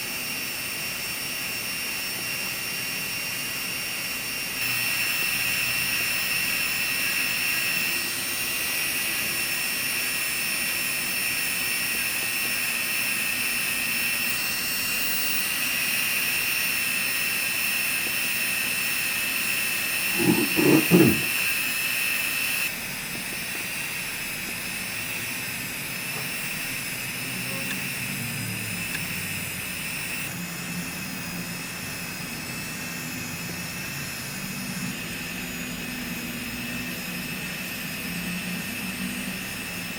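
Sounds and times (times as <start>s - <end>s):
electric foot file whining: 0.0s - 39.9s.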